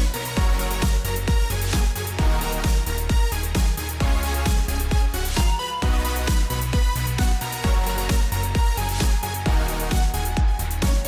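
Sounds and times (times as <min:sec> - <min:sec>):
bass line: 0:00.0 - 0:11.0
electronic dance music: 0:00.0 - 0:11.0
kick drum beat: 0:00.0 - 0:11.0.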